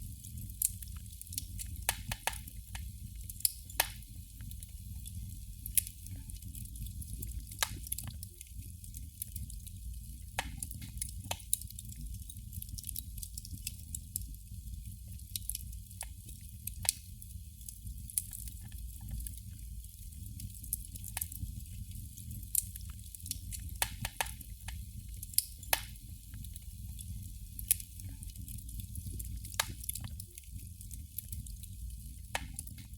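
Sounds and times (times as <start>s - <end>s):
candle flame crackling: 0.0s - 32.9s.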